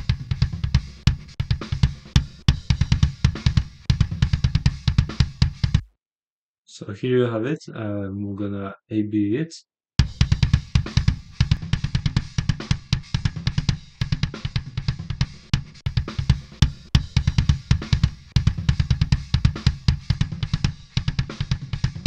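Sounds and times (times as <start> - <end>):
electronic drum track: 0.0 - 5.9, 10.0 - 22.0
heavy kick drum: 0.0 - 5.9, 10.0 - 22.0.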